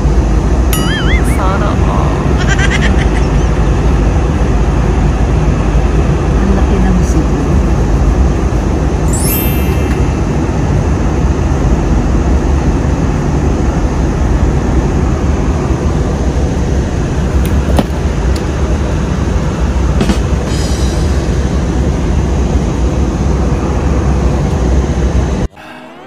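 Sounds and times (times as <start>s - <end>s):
airliner cabin engine roar: 0.0s - 26.0s.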